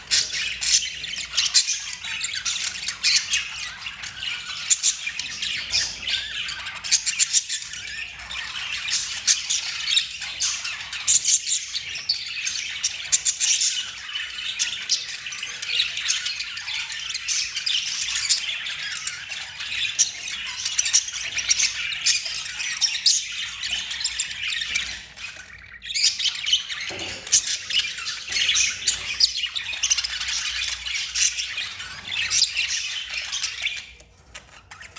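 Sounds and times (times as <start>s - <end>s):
budgerigars chattering and warbling: 0.0s - 34.9s.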